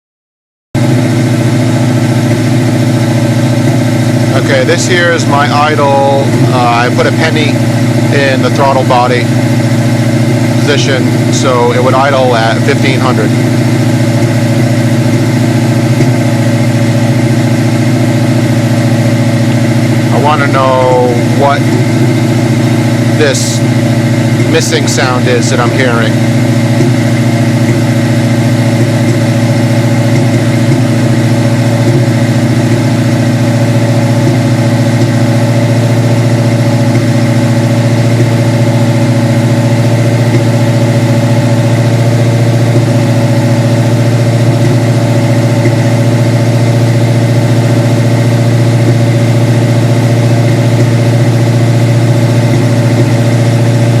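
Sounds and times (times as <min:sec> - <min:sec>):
engine idling: 0:00.8 - 0:54.0.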